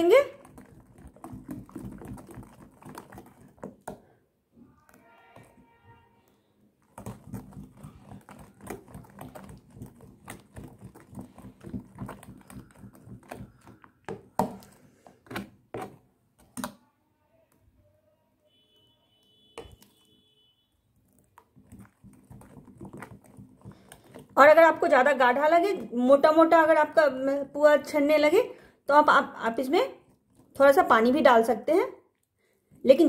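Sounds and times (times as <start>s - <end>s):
metal spoon beating batter in bowl: 0.0s - 16.8s, 18.5s - 28.4s, 29.0s - 31.7s.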